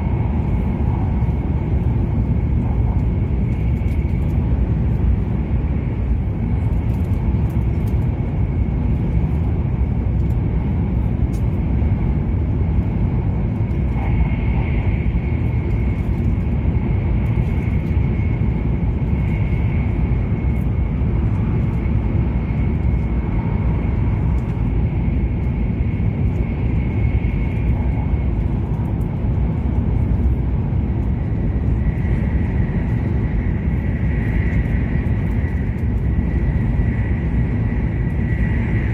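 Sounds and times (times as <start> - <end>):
train running at speed: 0.0 - 38.9.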